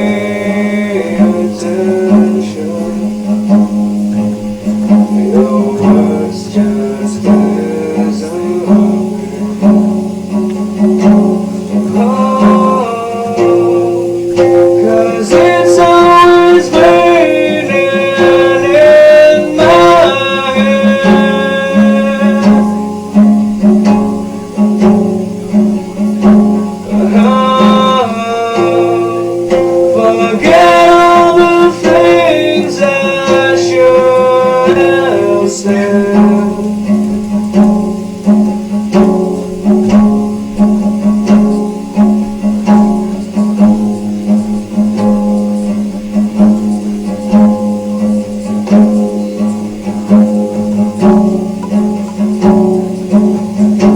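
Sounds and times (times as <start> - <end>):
plucked guitar music: 0.0 - 53.9.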